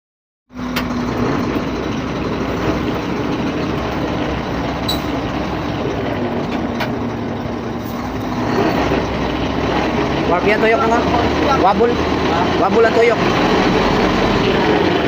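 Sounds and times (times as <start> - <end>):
heavy vehicle running: 0.5 - 15.0.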